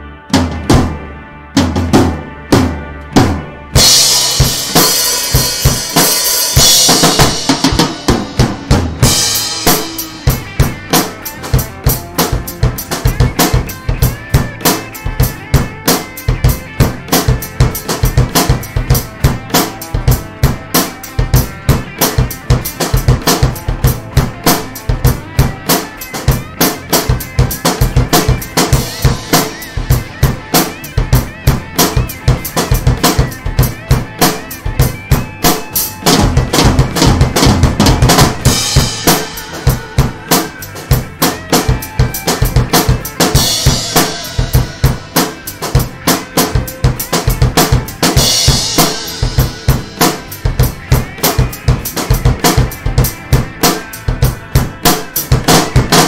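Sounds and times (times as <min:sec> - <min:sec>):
drum kit rock beat: 0:00.0 - 0:56.0.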